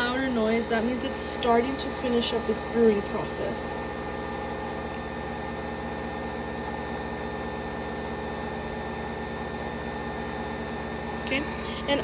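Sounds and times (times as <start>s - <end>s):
coffee machine whirring hum: 0.0s - 12.0s.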